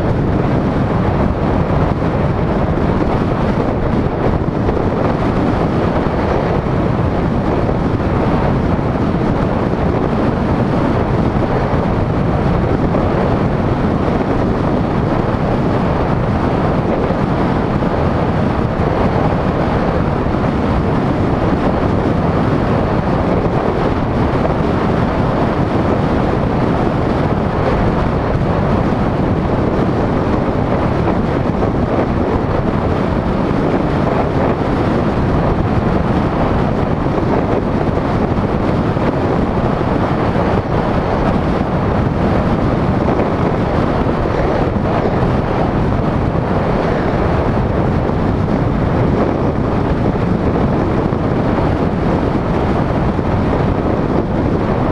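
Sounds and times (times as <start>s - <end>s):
road noise: 0.0s - 54.9s
wind buffeting microphone: 0.0s - 54.9s.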